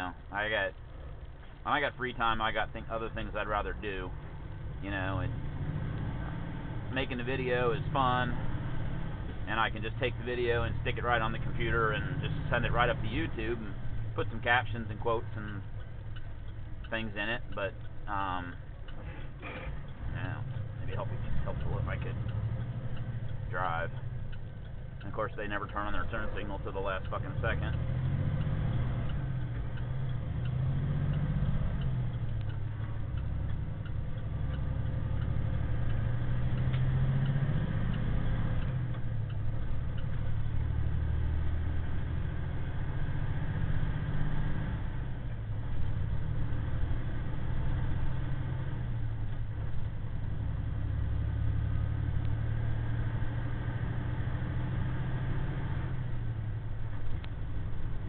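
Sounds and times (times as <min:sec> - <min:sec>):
road noise: 0:00.0 - 0:58.0
truck diesel engine droning: 0:00.0 - 0:58.0.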